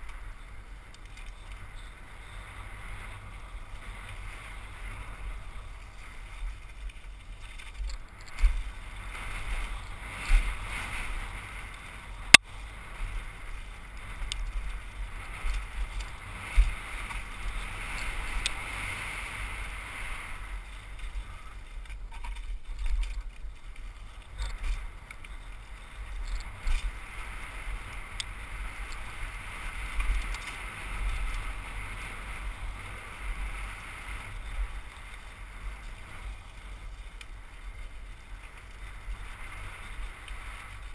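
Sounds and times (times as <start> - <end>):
bike rattling over bumps: 0.0 - 40.9.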